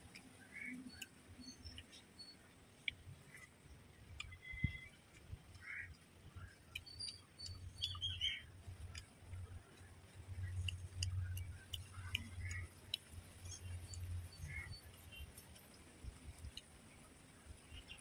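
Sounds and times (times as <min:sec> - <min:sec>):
eating clicks: 0:00.0 - 0:18.0
birds chirping: 0:00.1 - 0:15.7.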